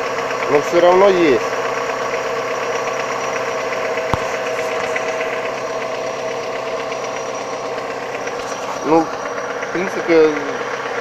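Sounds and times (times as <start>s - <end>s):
car engine idling with rapid knock: 0.0s - 11.0s.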